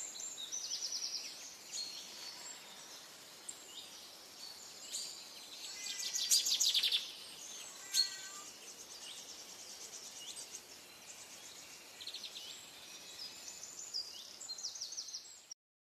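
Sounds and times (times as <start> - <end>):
birds calling and chirping: 0.0 - 15.4.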